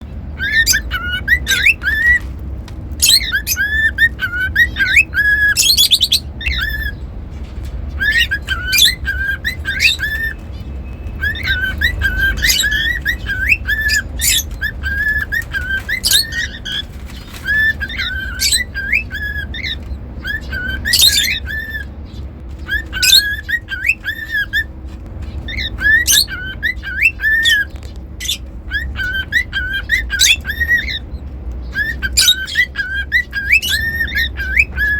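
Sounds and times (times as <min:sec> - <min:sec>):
cockatiel sharp chirps: 0:00.4 - 0:02.3, 0:03.0 - 0:07.0, 0:07.9 - 0:24.7, 0:25.3 - 0:34.9
cockatiel whistling: 0:00.4 - 0:02.3, 0:02.9 - 0:07.1, 0:07.9 - 0:34.9.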